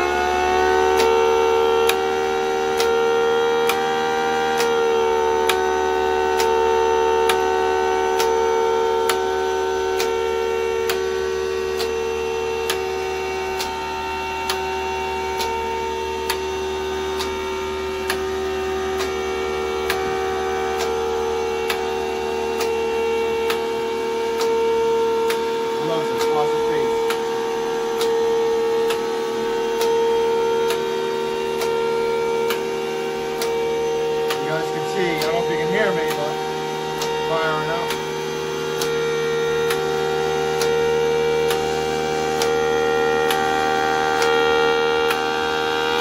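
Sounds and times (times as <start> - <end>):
siren steady tone: 0.0 - 46.0.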